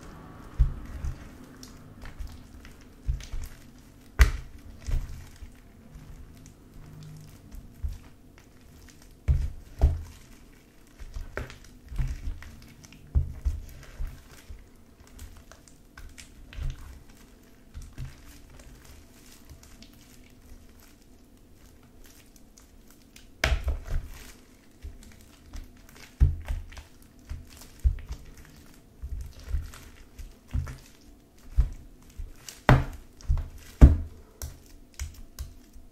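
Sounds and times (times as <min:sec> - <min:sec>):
slime squelching: 0:00.0 - 0:35.9.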